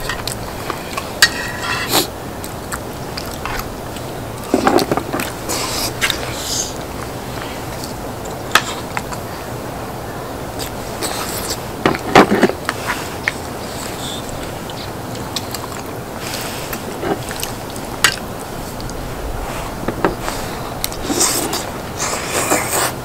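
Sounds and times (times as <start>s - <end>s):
chewing: 0.0s - 9.4s, 10.6s - 23.0s
steady background noise: 0.0s - 23.0s.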